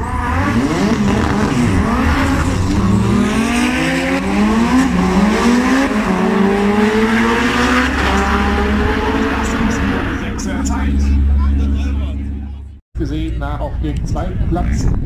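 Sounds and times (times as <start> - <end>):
race car engine accelerating: 0.0 - 12.8.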